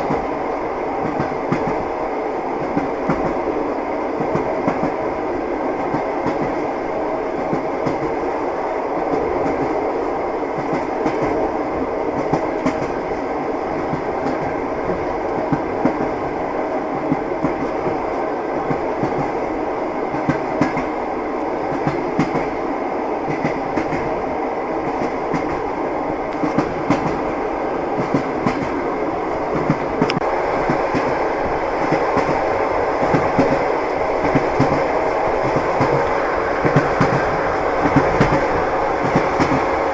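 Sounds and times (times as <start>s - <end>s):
train rumbling: 0.0s - 39.9s
train wheels clacking on rails: 0.0s - 39.9s.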